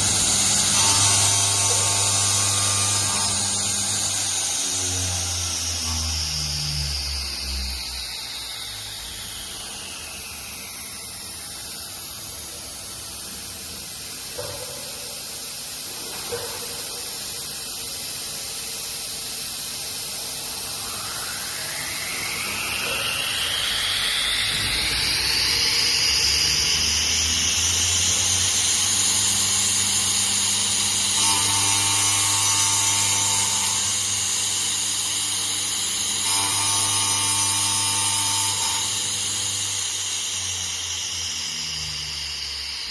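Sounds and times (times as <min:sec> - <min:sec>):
spindle motor whine: 0:00.0 - 0:42.9.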